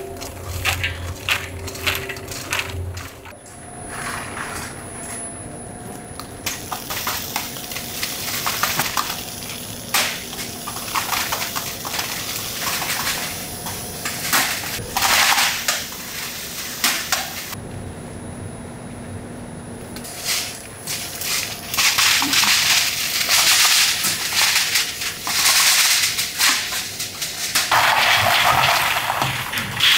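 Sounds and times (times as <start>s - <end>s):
factory machinery humming: 0.0s - 28.0s.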